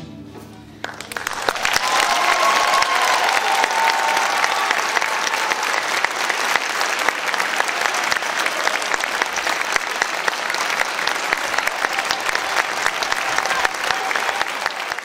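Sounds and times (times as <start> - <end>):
audience applauding: 0.8 - 15.0.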